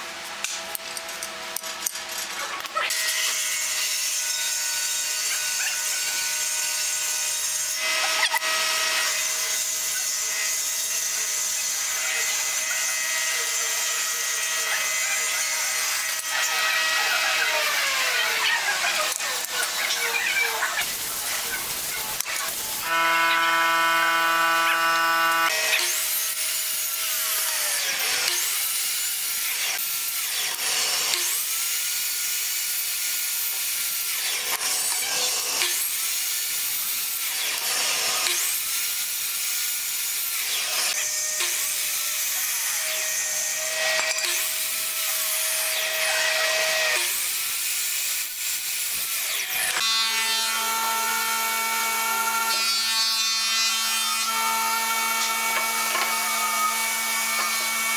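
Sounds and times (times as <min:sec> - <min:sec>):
miter saw cutting wood: 0:00.0 - 0:57.9.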